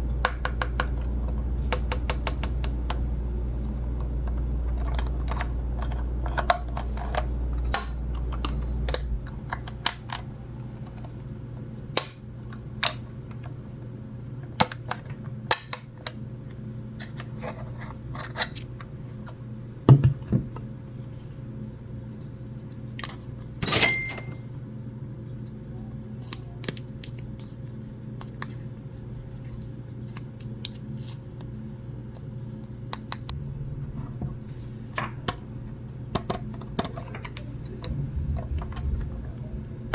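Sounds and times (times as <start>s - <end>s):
steady low hum: 0.0s - 15.4s, 16.0s - 39.9s.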